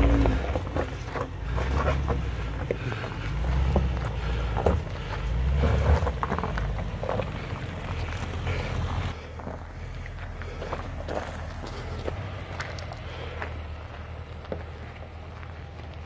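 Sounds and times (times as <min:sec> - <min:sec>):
engine rumble: 0:00.0 - 0:16.0
tyres crunching over stones: 0:00.0 - 0:16.0.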